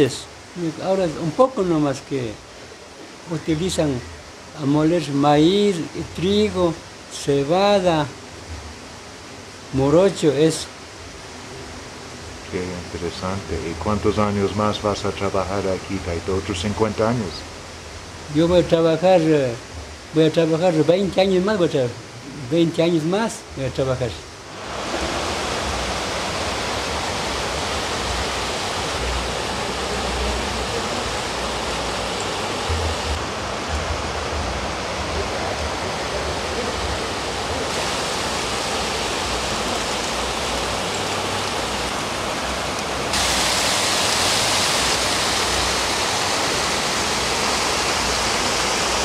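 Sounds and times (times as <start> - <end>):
running water rushing: 0.0 - 49.0.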